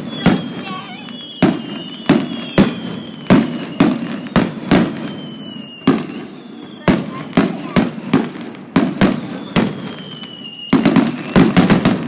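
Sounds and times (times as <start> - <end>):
thin high whistle falling: 0.0 - 7.8, 9.1 - 11.6
fireworks bursting with bangs: 0.0 - 12.0.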